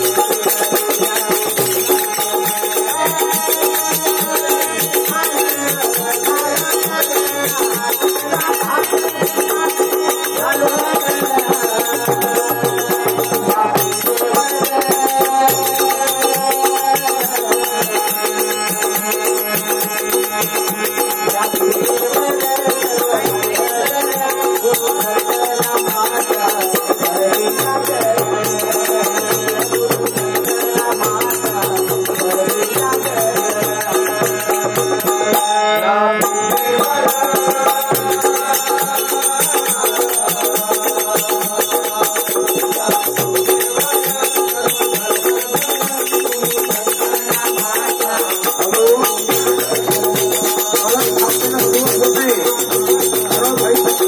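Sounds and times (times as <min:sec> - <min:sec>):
harmonium melody: 0:00.0 - 0:54.0.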